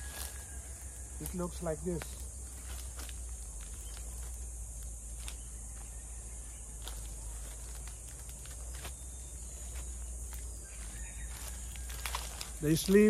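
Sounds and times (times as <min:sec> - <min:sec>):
footsteps on dry leaves: 0:00.0 - 0:13.0
insect chorus: 0:00.0 - 0:13.0.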